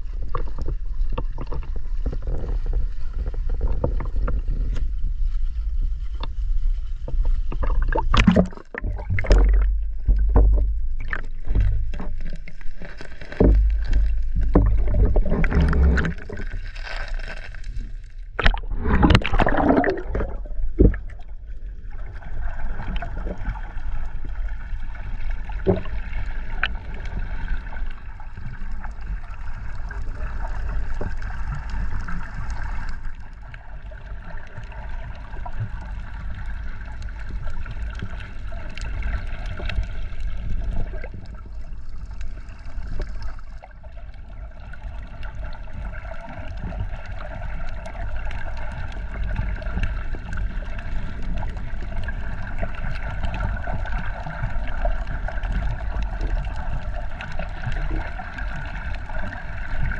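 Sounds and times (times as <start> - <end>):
water splashing and gurgling: 0.0 - 59.9.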